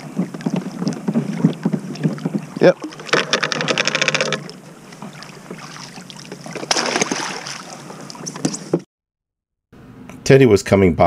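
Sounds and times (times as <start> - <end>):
water splashing and dripping: 0.0 - 8.9.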